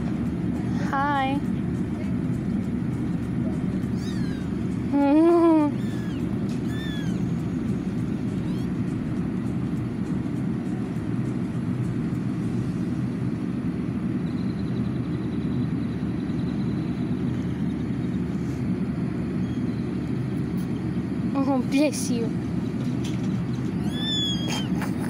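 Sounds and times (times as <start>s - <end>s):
car running inside cabin: 0.0s - 25.0s.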